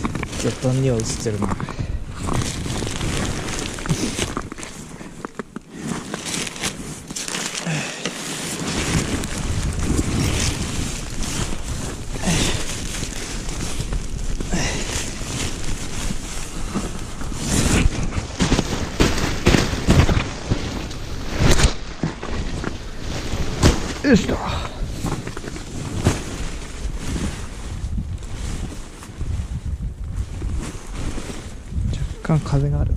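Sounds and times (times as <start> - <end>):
wind rumbling on microphone: 0.0 - 5.4, 8.5 - 32.9
tent fabric rustling: 0.0 - 32.7.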